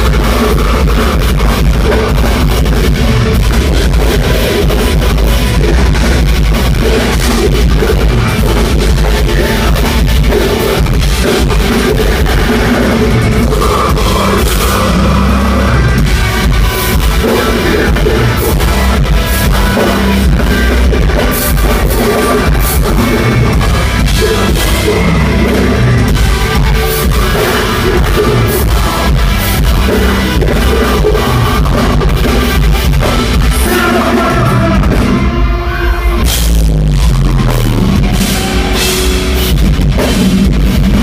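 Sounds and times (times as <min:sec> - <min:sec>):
distorted electric guitars: 0:00.0 - 0:41.0
drum kit: 0:00.0 - 0:41.0.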